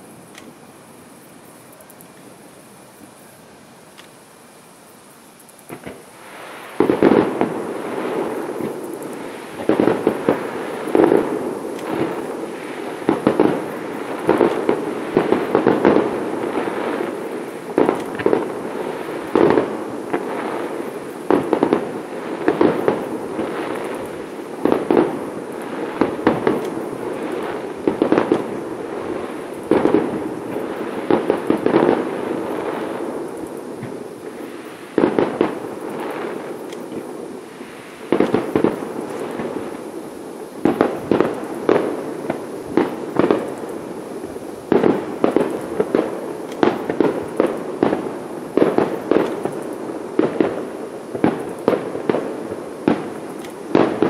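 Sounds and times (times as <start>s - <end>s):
firework shells bursting: 5.0s - 54.0s.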